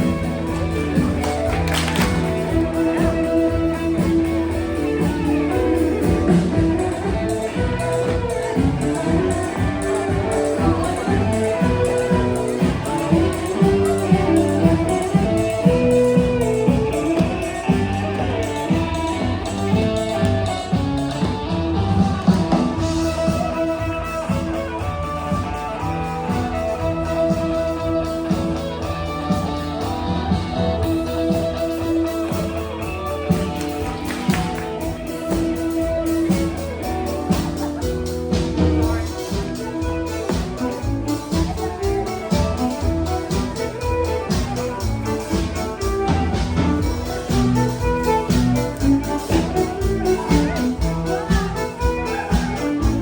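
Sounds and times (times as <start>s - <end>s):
dance band playing: 0.0s - 53.0s
fiddle: 0.0s - 53.0s
keyboard: 0.0s - 53.0s
percussion: 0.0s - 53.0s.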